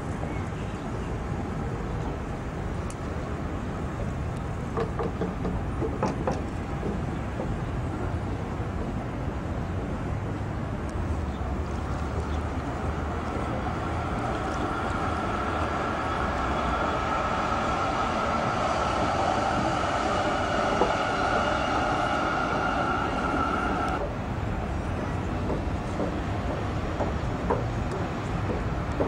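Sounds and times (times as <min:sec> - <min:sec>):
tram low rumble: 0:00.0 - 0:29.0
tram high-pitched whine: 0:05.0 - 0:29.0.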